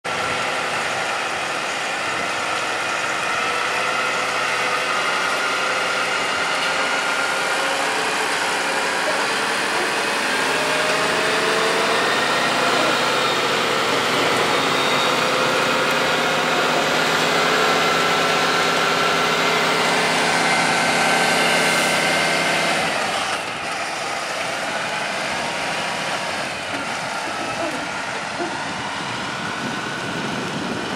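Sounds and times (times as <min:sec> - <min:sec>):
diesel truck engine droning: 0:00.0 - 0:30.9.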